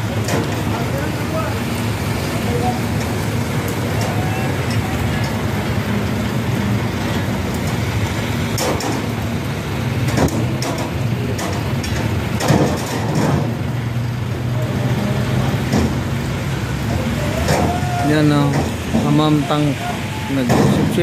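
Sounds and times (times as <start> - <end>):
heavy rain hissing: 0.0 - 21.0
vehicle engines running: 0.0 - 21.0.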